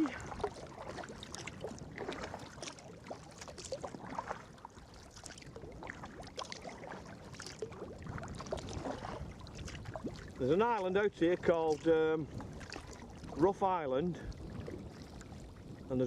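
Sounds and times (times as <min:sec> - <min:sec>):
paddle splashing in water: 0:00.0 - 0:15.9
water lapping around boat: 0:00.0 - 0:16.0.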